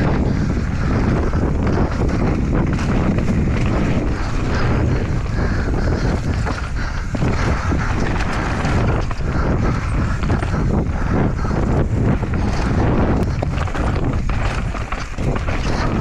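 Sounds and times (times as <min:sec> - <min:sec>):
bike knocking and rattling: 0:00.0 - 0:16.0
tyres on dirt: 0:00.0 - 0:16.0
wind buffeting microphone: 0:00.0 - 0:16.0.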